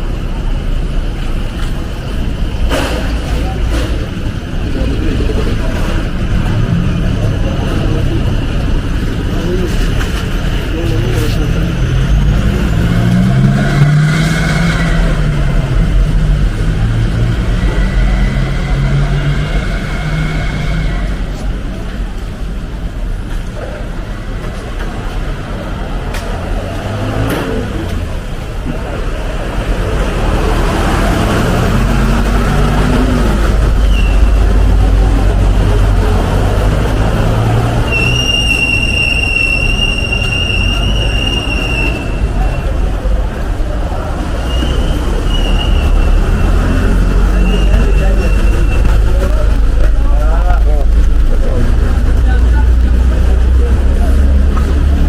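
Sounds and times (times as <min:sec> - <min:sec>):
road traffic rumbling: 0:00.0 - 0:55.0.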